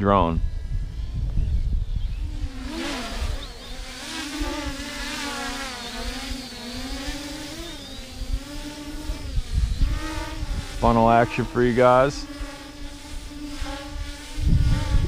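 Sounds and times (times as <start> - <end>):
quadcopter propellers whining: 0.0 - 15.0
wind buffeting microphone: 0.0 - 15.0.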